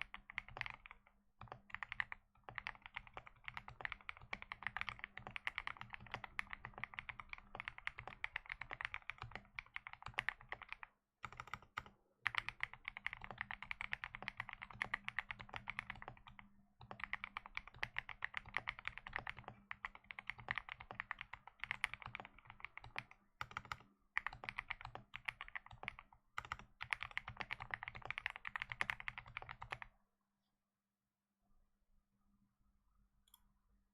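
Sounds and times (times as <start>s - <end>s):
mechanical keyboard typing: 0.0s - 29.9s.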